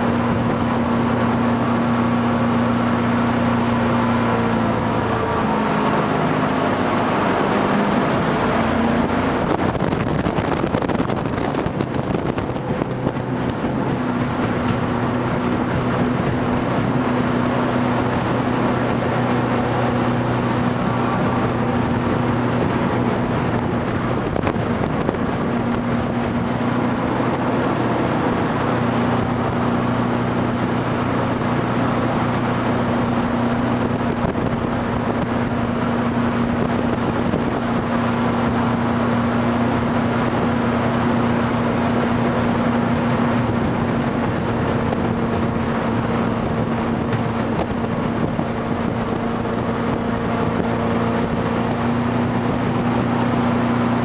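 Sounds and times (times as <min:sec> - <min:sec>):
boat engine drone: 0:00.0 - 0:54.0
rushing water: 0:00.0 - 0:54.0.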